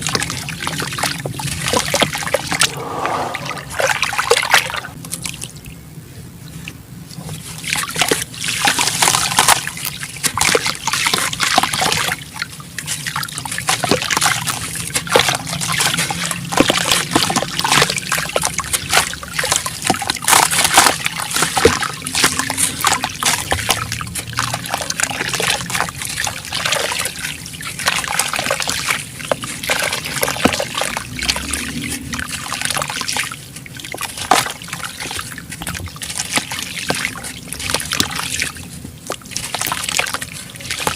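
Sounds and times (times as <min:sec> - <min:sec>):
water splashes: 0:00.0 - 0:05.8, 0:06.5 - 0:40.9.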